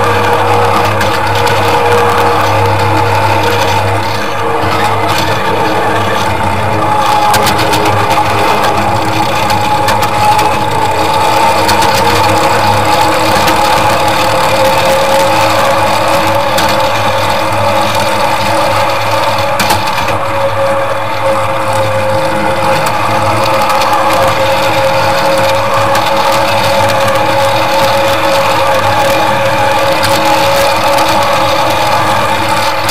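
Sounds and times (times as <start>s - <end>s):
miniature train mechanical hum: 0.0s - 32.9s
wheels on rails: 0.0s - 32.9s.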